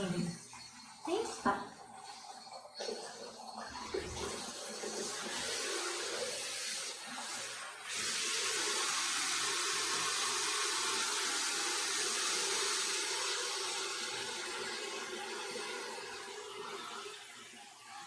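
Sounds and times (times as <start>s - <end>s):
water running from tap: 0.0s - 18.0s.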